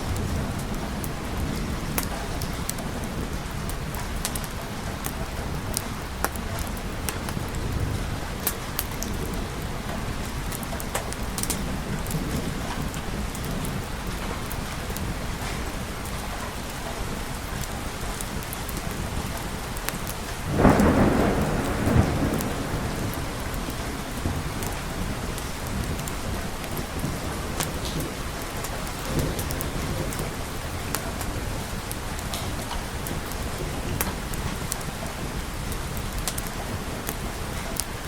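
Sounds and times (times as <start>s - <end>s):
rain falling: 0.0s - 38.0s
thunderclap rumbling: 0.0s - 38.0s.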